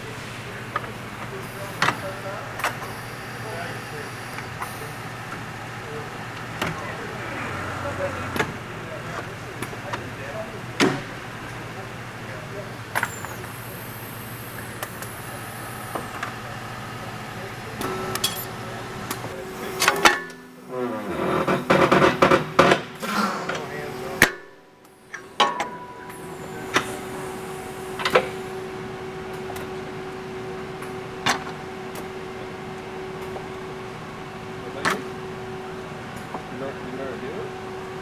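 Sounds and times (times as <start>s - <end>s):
assembly-line machinery hum: 0.5s - 22.6s, 24.9s - 34.2s.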